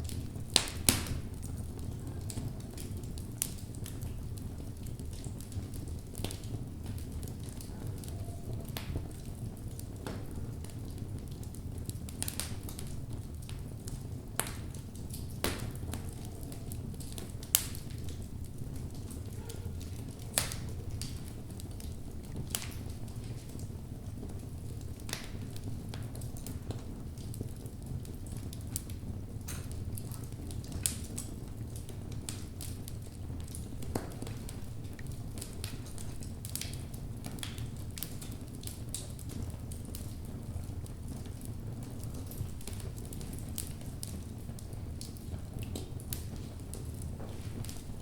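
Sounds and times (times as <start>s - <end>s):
burning logs crackling and popping: 0.0s - 48.0s
fire flames rumbling: 0.0s - 48.0s.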